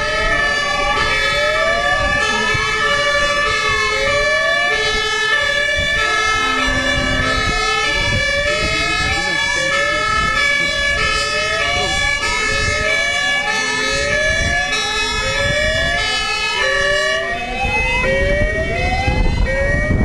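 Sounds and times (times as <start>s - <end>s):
fire engine sirens: 0.0s - 20.0s
truck engine and road noise: 0.0s - 20.0s.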